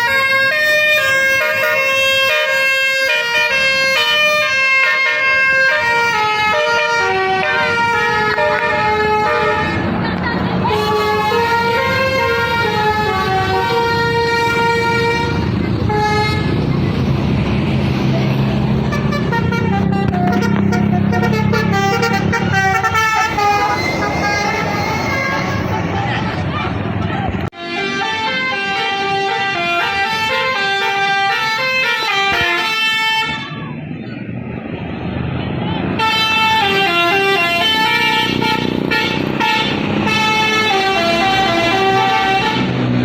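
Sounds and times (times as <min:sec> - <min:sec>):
bus air horn playing a tune: 0:00.0 - 0:10.0, 0:10.6 - 0:16.6, 0:18.8 - 0:26.0, 0:27.6 - 0:33.6, 0:36.0 - 0:43.0
bus engine rumble: 0:00.0 - 0:43.0
traffic: 0:00.0 - 0:43.0.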